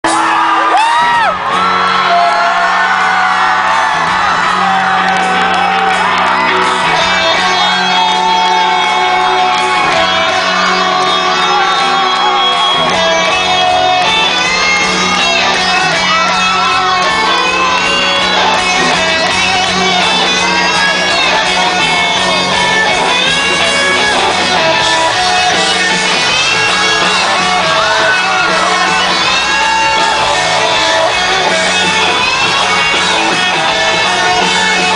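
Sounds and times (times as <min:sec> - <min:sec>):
electric guitars: 0:00.0 - 0:34.9
rock band playing live: 0:00.0 - 0:34.9
singer shouting and singing: 0:06.6 - 0:34.9.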